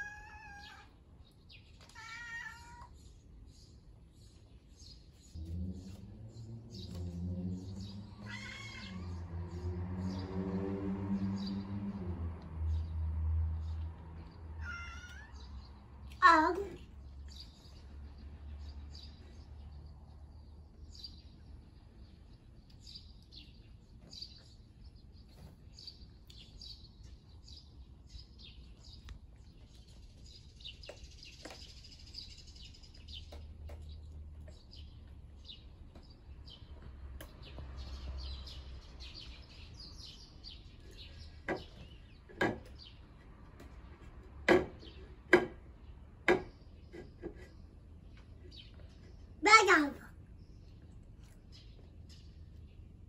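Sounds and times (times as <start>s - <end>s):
small birds chirping: 0.0s - 10.4s, 13.6s - 53.0s.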